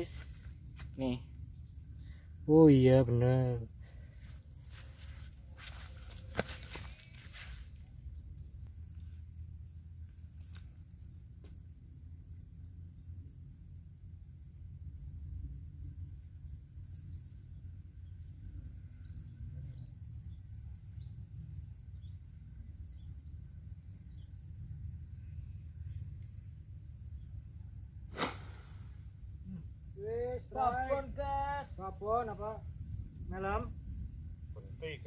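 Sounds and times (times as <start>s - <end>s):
cricket chirps: 0.0s - 35.0s
insects droning: 0.0s - 35.0s
low steady rumble: 0.0s - 35.0s.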